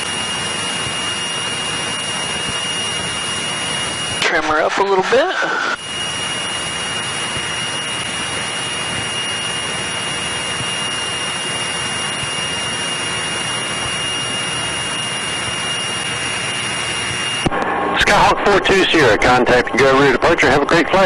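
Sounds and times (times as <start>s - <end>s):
airplane engine and propeller drone: 0.0s - 21.0s
thin high whine: 0.0s - 21.0s.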